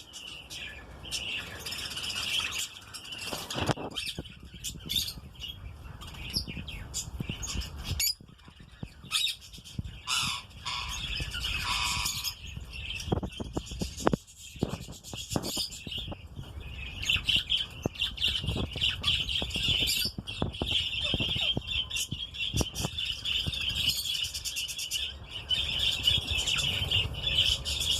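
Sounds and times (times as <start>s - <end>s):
lovebirds squawking and chirping: 0.0s - 27.9s.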